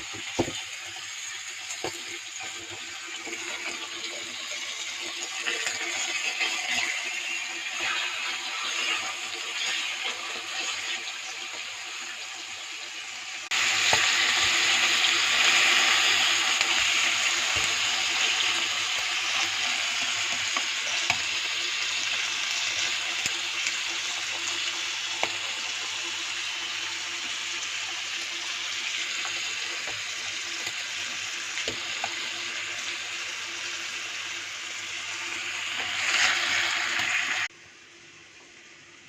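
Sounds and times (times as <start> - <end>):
meat sizzling on a barbecue: 0.0 - 37.5.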